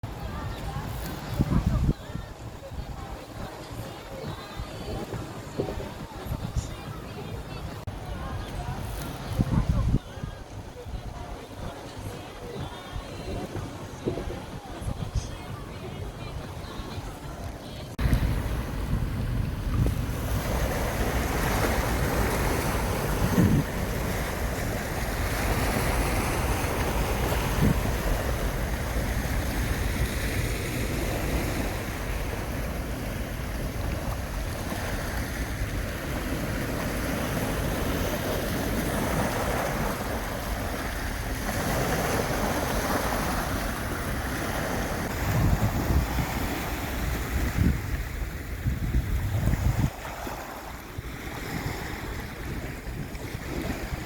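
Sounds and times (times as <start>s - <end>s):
waves washing on shore: 0.0s - 54.0s
wind buffeting microphone: 0.0s - 54.0s.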